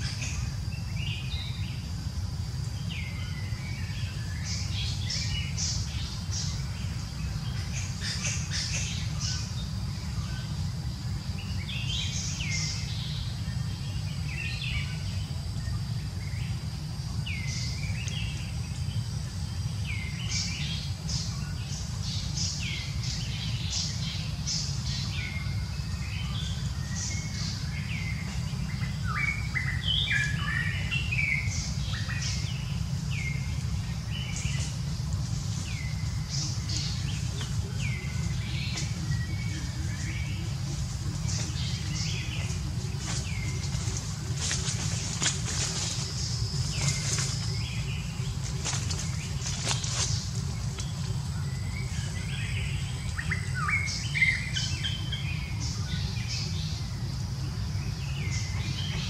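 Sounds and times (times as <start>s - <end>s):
birds chirping: 0.0s - 59.0s
steady low rumble: 0.0s - 59.0s.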